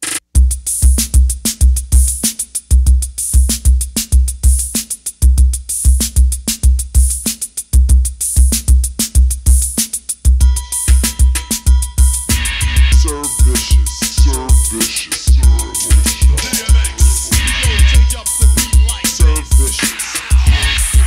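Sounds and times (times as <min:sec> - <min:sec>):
hip hop drum machine beat: 0:00.0 - 0:21.0.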